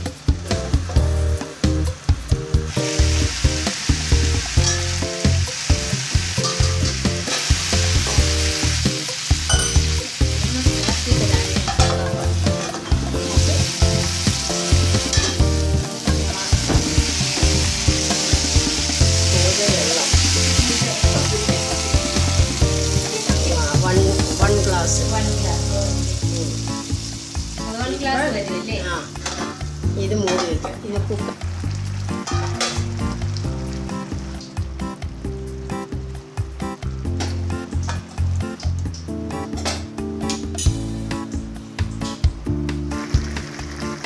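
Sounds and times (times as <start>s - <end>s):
chicken sizzling in a pan: 0.0s - 44.0s.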